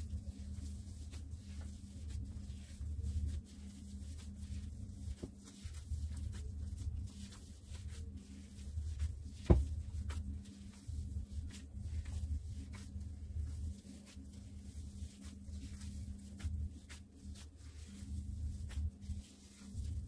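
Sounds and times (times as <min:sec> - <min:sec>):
dough rustling in bowl: 0:00.0 - 0:20.0.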